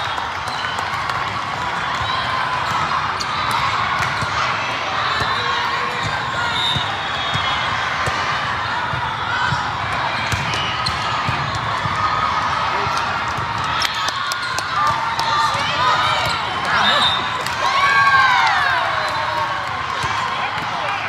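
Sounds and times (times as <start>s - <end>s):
crowd and player voices: 0.0s - 21.0s.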